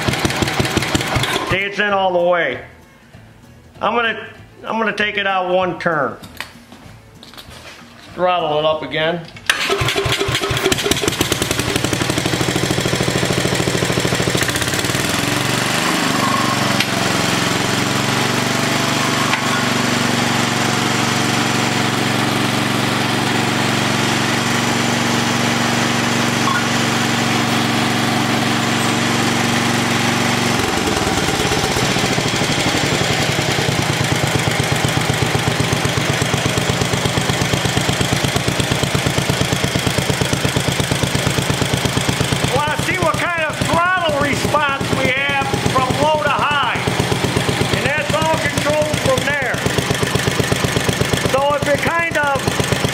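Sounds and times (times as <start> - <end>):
single-cylinder engine running: 0.0 - 1.7, 9.5 - 52.9.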